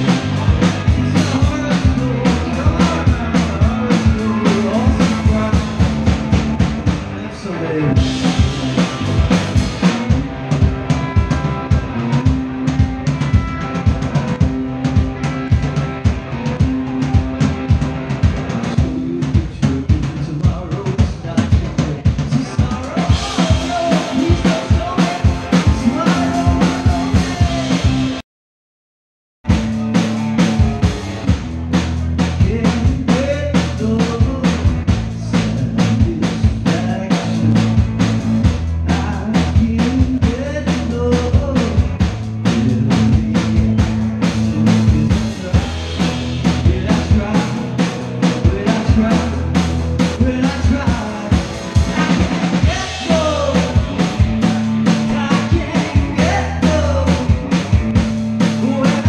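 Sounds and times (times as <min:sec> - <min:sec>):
drum kit kick and snare: 0:00.0 - 0:07.1, 0:08.0 - 0:28.2, 0:29.4 - 0:59.0
bass guitar: 0:00.0 - 0:28.2, 0:29.4 - 0:59.0
electric guitar: 0:00.0 - 0:28.2, 0:29.5 - 0:59.0.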